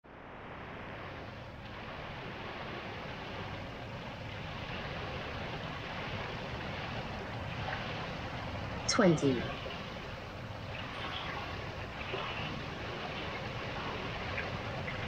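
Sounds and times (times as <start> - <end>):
pool water noise: 0.0 - 15.0.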